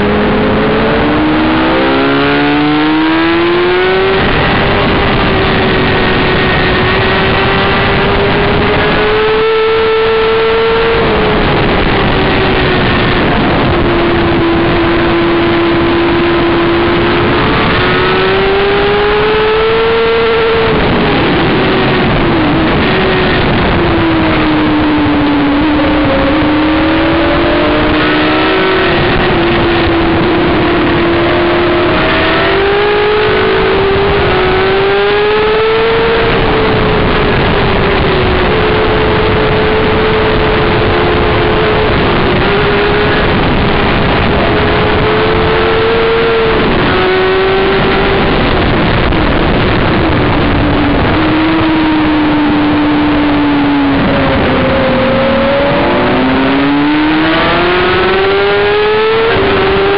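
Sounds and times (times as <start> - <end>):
motorcycle engine at high revs: 0.0 - 59.9
wind rushing over microphone: 0.0 - 59.9.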